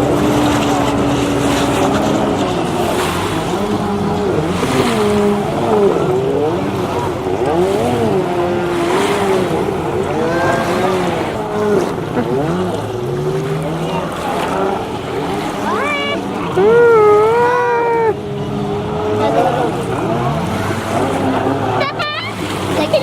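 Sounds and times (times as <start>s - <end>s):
jet ski engine revving: 0.0s - 23.0s
water wash: 0.0s - 23.0s.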